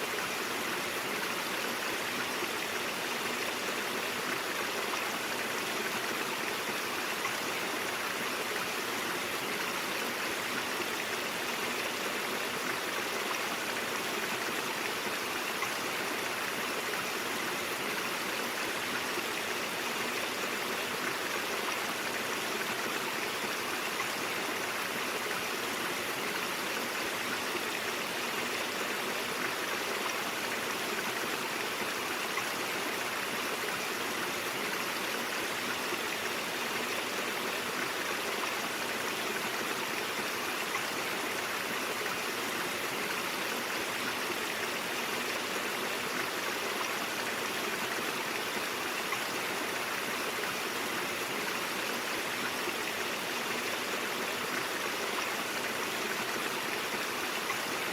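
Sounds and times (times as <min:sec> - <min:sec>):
brook flowing: 0:00.0 - 0:57.9.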